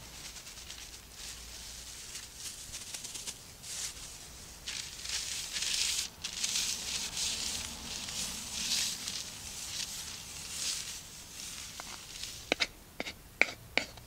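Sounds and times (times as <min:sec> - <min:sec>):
hand sweeping over paper: 0:00.0 - 0:12.5
plastic bag rustling: 0:00.0 - 0:12.5.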